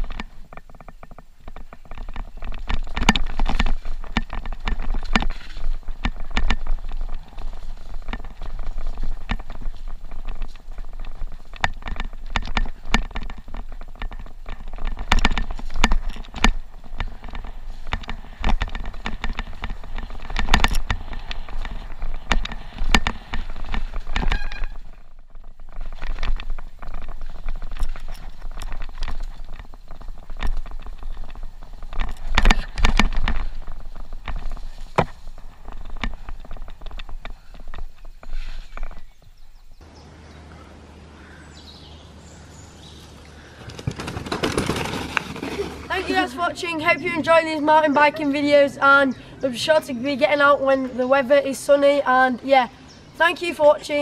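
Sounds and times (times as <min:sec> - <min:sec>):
mountain bike rattling on trail: 0:00.0 - 0:39.8, 0:42.8 - 0:54.0.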